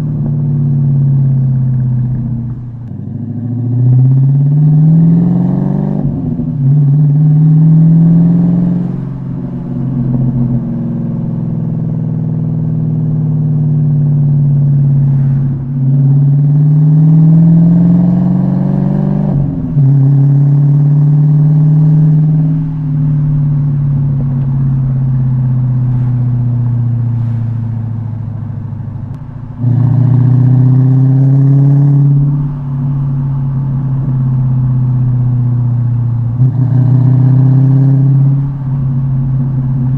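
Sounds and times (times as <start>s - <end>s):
deep car exhaust note: 0.0s - 39.9s.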